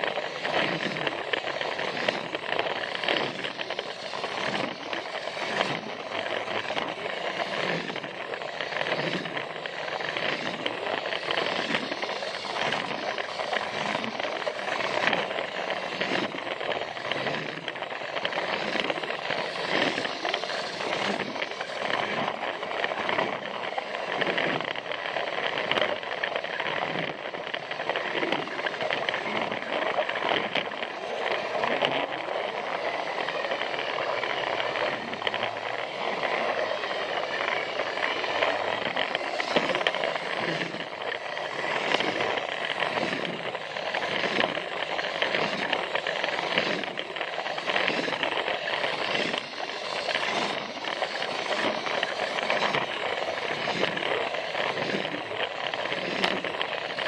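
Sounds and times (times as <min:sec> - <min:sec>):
toy train motor whirring: 0:00.0 - 0:57.0
wheels clicking over track joints: 0:00.0 - 0:57.0.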